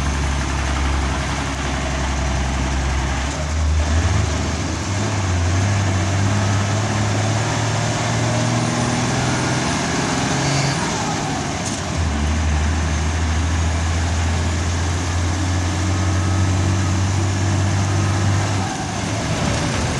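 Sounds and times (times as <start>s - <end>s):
bus diesel engine pulling away: 0.0s - 19.9s.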